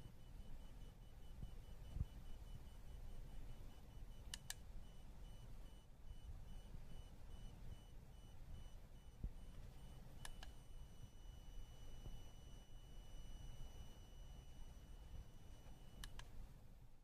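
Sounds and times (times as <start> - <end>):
inverter high-pitched whine: 0.0 - 16.4.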